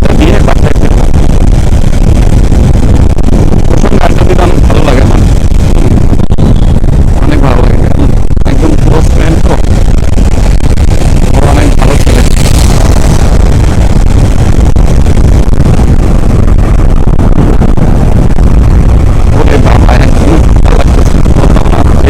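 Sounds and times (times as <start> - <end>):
road noise: 0.0 - 22.0
wind buffeting microphone: 0.0 - 22.0
motorcycle engine rumble: 0.9 - 3.8, 4.9 - 22.0.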